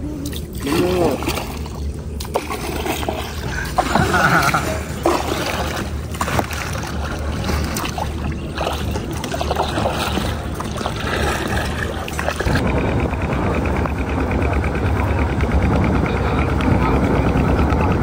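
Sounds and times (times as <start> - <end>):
low drone: 0.0 - 18.0
water splashing around boat: 0.0 - 18.0.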